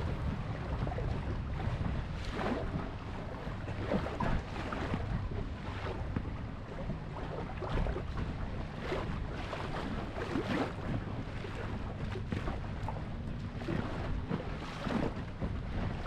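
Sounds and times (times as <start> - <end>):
low rumble: 0.0 - 16.0
water splashing against boat hull: 0.0 - 16.0.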